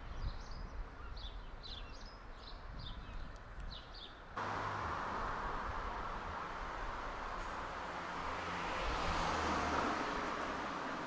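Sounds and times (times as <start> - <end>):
faint low town rumble: 0.0 - 11.0
steady traffic noise: 0.7 - 11.0.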